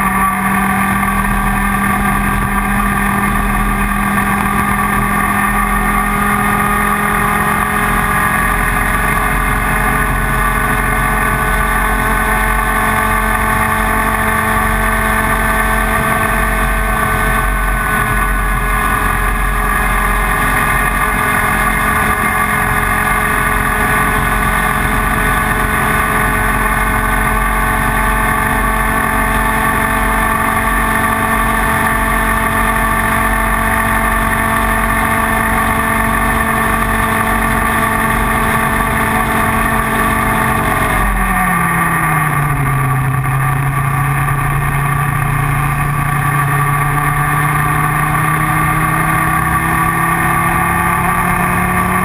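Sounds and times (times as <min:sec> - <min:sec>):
kart engine running hard: 0:00.0 - 0:52.0.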